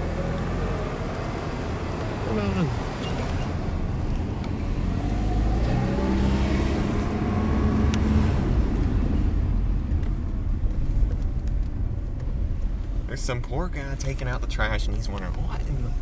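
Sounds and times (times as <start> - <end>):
car engine accelerating: 0.0 - 16.0
low road rumble: 0.0 - 16.0.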